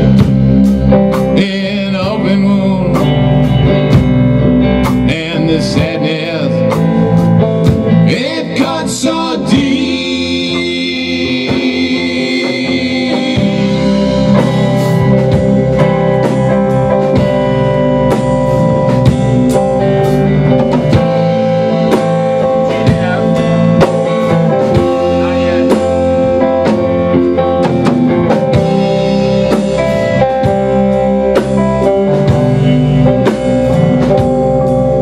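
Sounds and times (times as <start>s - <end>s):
drum kit: 0.0s - 35.0s
electric guitars: 0.0s - 35.0s
rock band playing live: 0.0s - 35.0s.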